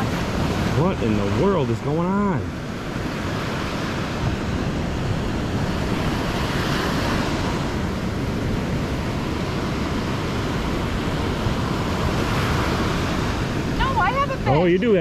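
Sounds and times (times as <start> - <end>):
surf washing onto beach: 0.0 - 15.0
wind noise on microphone: 0.0 - 15.0.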